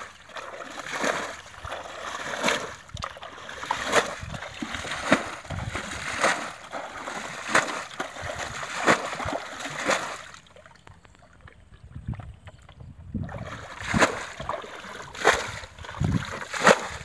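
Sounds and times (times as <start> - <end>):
bucket scooping water: 0.0 - 17.0.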